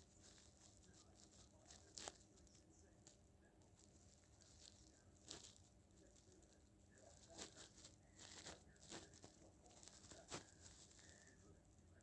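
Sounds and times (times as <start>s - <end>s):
faint rustling scratches: 0.0s - 12.0s.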